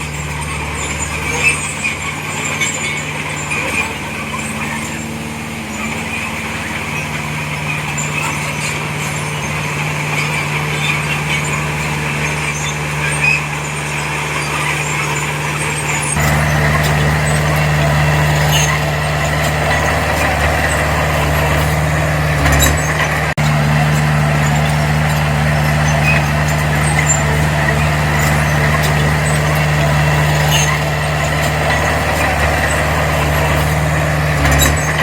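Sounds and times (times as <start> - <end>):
diesel earthmoving machine engine: 0.0 - 35.0.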